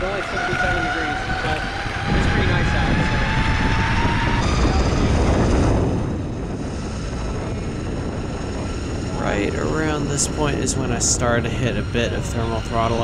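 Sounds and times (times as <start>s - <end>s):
electric motor whine: 0.0s - 13.0s
wind rumbling on microphone: 0.0s - 13.0s.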